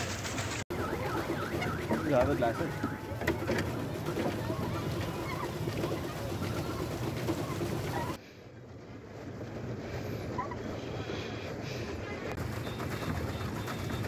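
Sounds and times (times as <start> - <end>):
open water ambience: 0.0 - 14.0
water splashing under pedal boat: 0.0 - 14.0.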